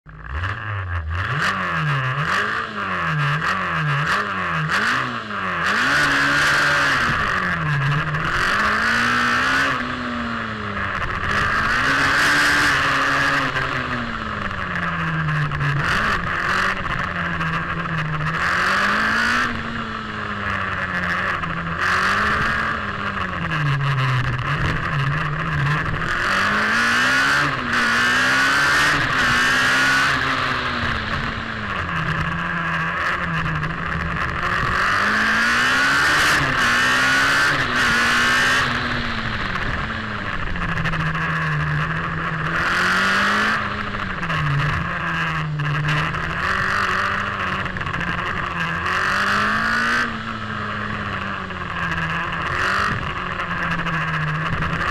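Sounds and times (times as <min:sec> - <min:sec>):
race car engine revving: 0:00.2 - 0:54.9.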